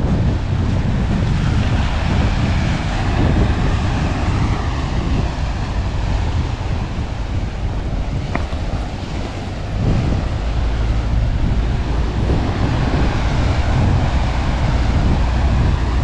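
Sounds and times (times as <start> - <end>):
ocean surf on rocky shore: 0.0 - 16.0
wind buffeting microphone: 0.0 - 16.0.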